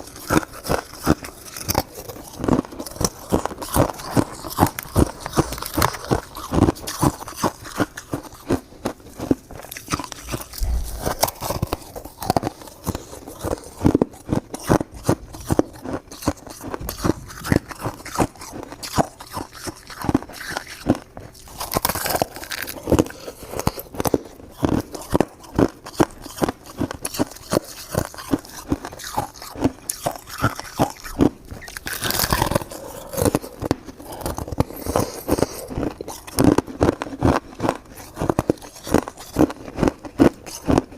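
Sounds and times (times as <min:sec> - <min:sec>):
person chewing crunchy ice: 0:00.0 - 0:40.9.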